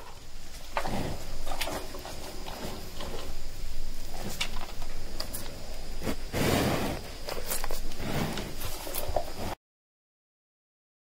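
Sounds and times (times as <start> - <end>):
animal chewing leaves: 0.0 - 9.6.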